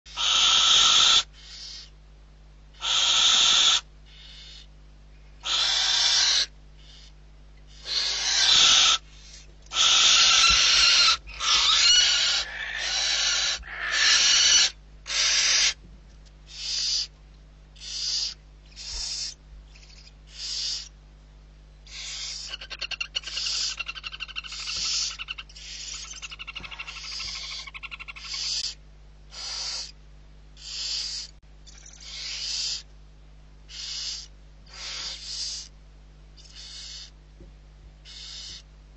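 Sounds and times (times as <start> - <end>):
owl chicks hissing screeches: 0.1 - 2.0, 2.8 - 4.7, 5.4 - 15.8, 16.5 - 17.1, 17.8 - 20.9, 21.8 - 30.0, 30.6 - 32.9, 33.7 - 35.8, 36.4 - 37.2, 38.0 - 38.6.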